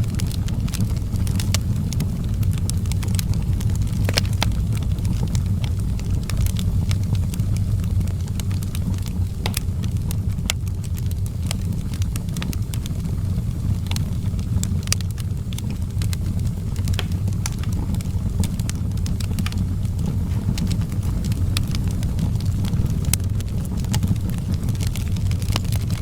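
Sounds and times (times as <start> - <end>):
burning wood crackling: 0.0 - 26.0
rumble of flames: 0.0 - 26.0.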